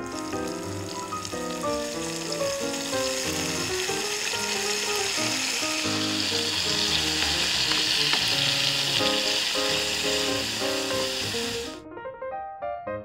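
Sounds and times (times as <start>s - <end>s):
meat sizzling in a frying pan: 0.0s - 11.8s
background music melody: 0.0s - 13.0s.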